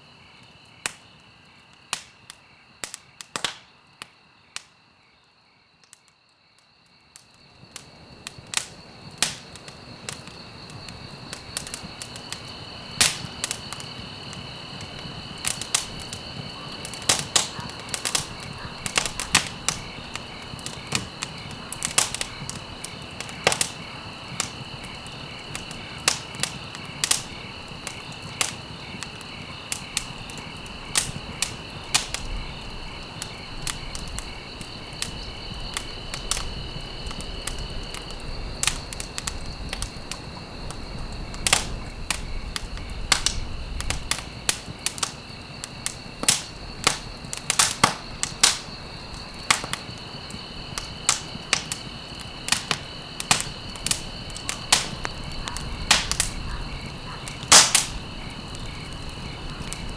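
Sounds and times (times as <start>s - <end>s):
wood fire crackling: 0.0s - 4.8s, 6.8s - 59.9s.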